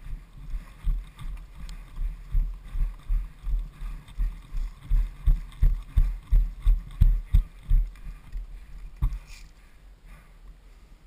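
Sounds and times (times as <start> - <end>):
running footsteps on dry ground: 0.0 - 9.3.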